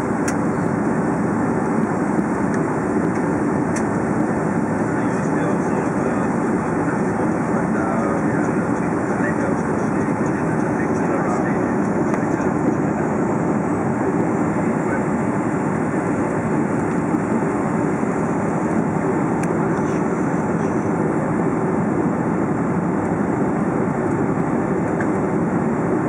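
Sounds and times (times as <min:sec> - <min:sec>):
airplane cabin engine roar: 0:00.0 - 0:26.0.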